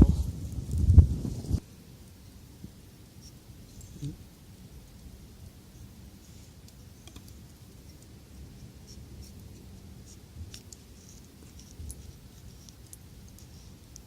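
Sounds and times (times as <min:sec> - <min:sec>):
charcoal fire ticks and crackles: 0:00.0 - 0:14.0.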